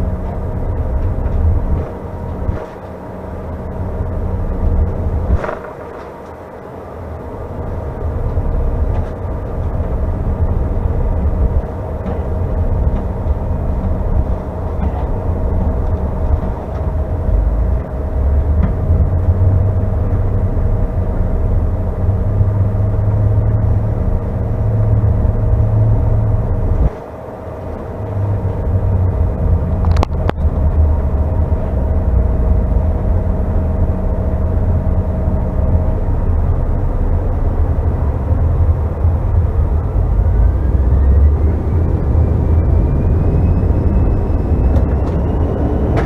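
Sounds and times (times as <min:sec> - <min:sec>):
heavy low rumble: 0:00.0 - 0:46.0
jet engines whining: 0:00.0 - 0:46.0.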